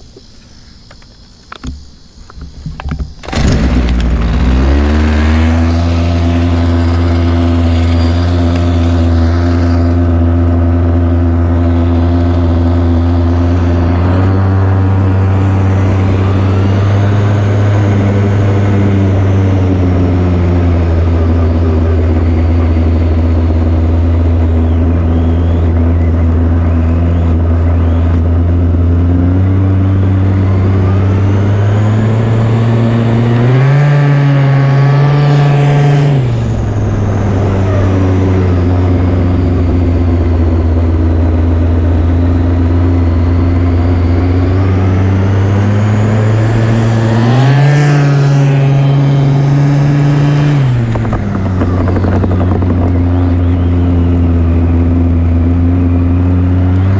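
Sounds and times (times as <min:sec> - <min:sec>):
two-stroke engine running: 0:01.5 - 0:56.9.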